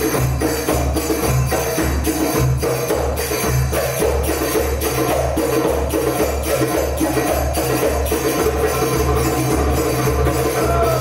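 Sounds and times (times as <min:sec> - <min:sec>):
high ringing layer: 0:00.0 - 0:11.0
percussion ensemble drumming: 0:00.0 - 0:11.0.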